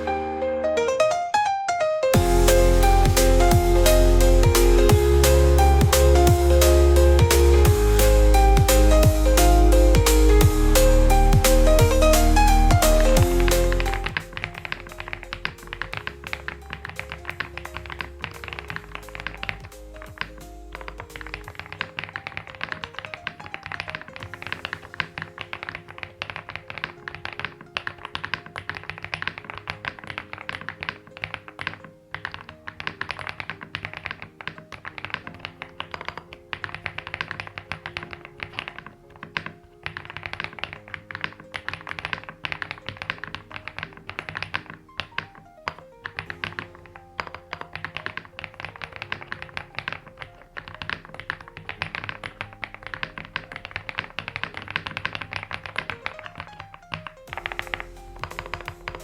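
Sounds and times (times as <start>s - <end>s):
background music with held notes: 0.0s - 59.0s
fast typing on mechanical keyboard: 11.7s - 59.0s.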